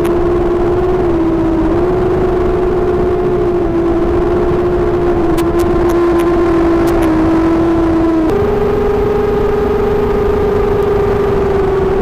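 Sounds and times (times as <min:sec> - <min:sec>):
drone motors whining: 0:00.0 - 0:12.0
rough rushing noise: 0:00.0 - 0:12.0.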